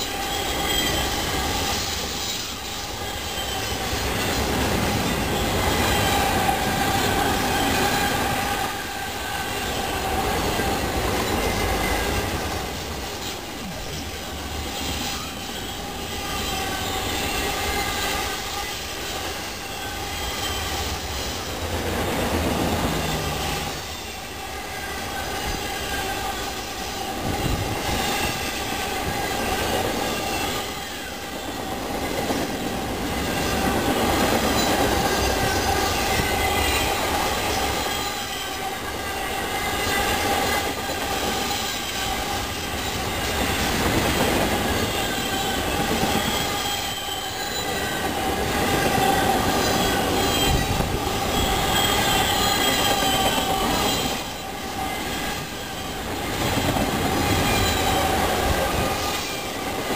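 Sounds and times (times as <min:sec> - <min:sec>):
high squeal of wheel flanges: 0:00.0 - 0:59.9
rumble of wheels on rail: 0:00.0 - 0:59.9.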